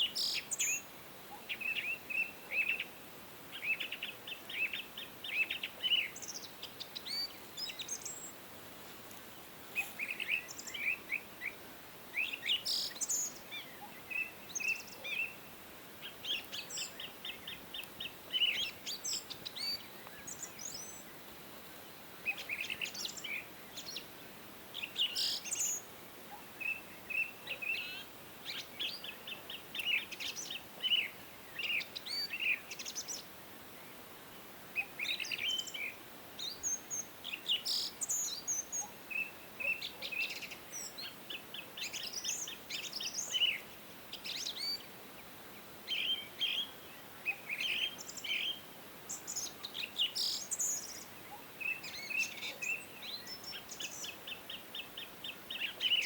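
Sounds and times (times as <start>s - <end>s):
faint steady hiss: 0.0s - 56.0s
songbirds chirping and trilling: 0.0s - 56.0s.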